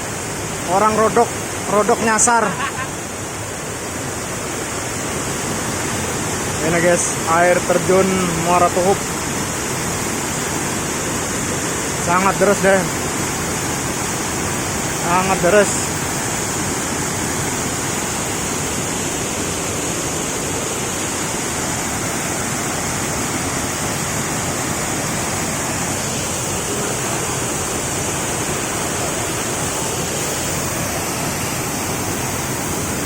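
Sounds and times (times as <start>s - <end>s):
waterfall pouring heavily: 0.0s - 33.0s.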